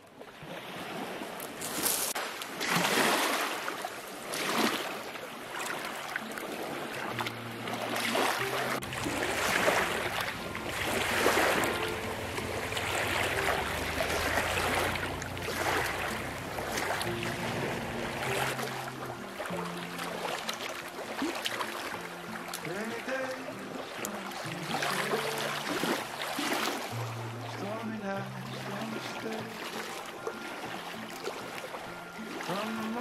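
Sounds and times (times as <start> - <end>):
waves washing onto pebbles: 0.3 - 33.0.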